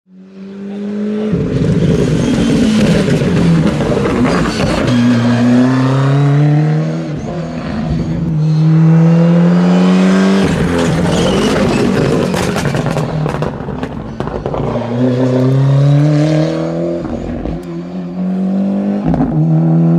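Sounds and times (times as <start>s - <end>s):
rally car engine accelerating: 0.1s - 19.9s.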